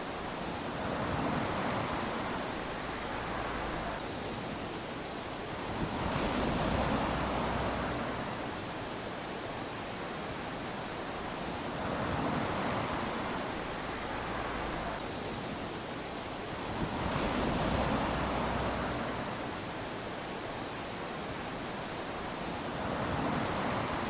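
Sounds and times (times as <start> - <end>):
small waves lapping on sand: 0.0 - 24.0.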